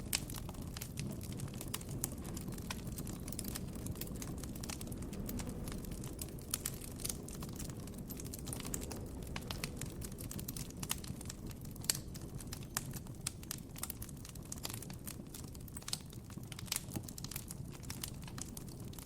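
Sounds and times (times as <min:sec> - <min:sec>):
campfire crackling: 0:00.0 - 0:19.0
fire low rumble: 0:00.0 - 0:19.0.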